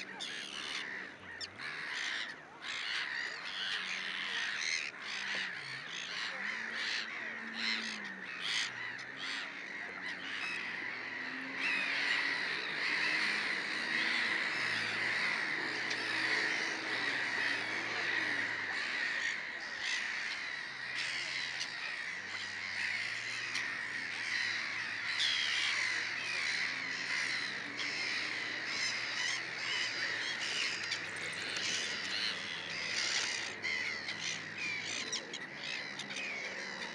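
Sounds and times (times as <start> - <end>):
gulls calling: 0.0 - 36.9.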